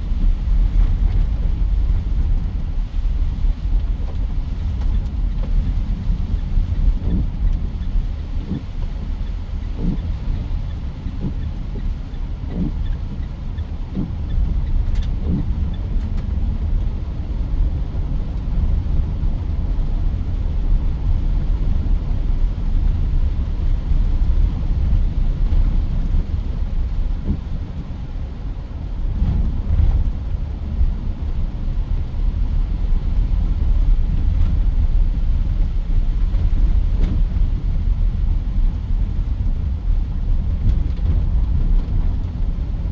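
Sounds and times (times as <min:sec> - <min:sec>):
engine and road noise rumble: 0:00.0 - 0:42.9.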